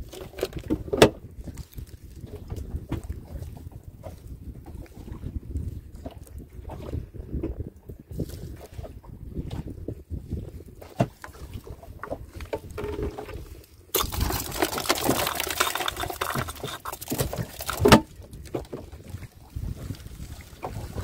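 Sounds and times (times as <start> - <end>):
water splashing around boat: 0.0 - 21.0.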